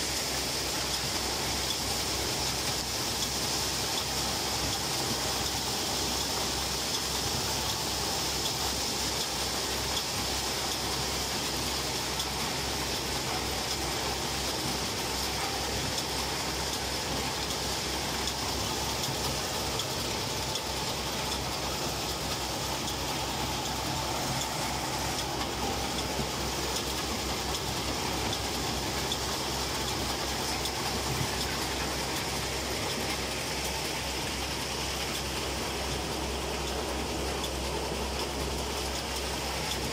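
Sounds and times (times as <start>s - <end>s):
harvester engine and machinery: 0.0s - 39.9s.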